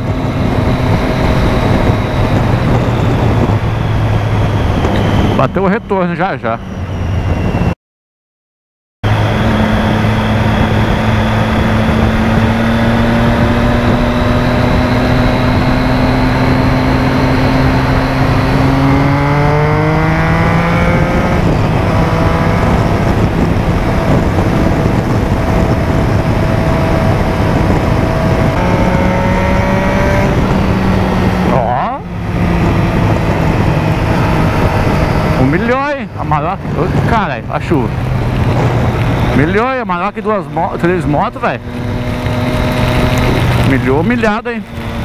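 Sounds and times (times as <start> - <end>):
motorcycle engine revving: 0.0 - 7.7, 9.0 - 45.0
wind rushing on camera: 0.0 - 7.8, 9.0 - 45.0.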